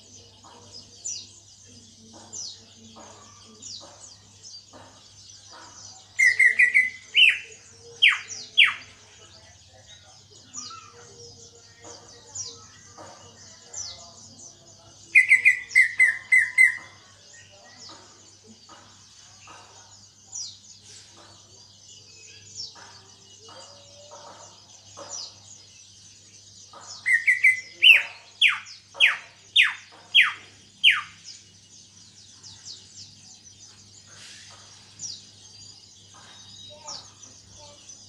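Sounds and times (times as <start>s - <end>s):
soft bird chatter: 0.0s - 38.0s.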